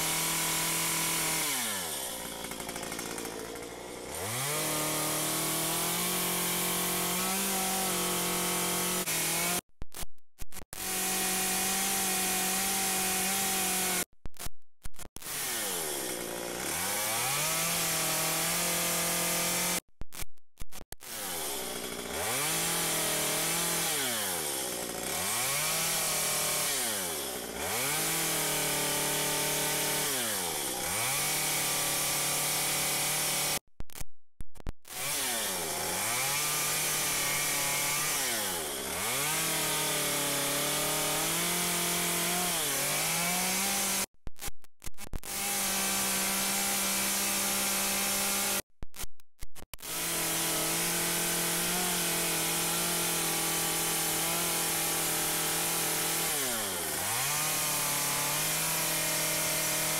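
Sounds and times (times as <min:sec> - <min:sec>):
chainsaw cutting wood: 0:00.0 - 0:09.7, 0:10.7 - 0:20.3, 0:21.0 - 0:33.6, 0:34.9 - 0:49.1, 0:49.7 - 0:59.9.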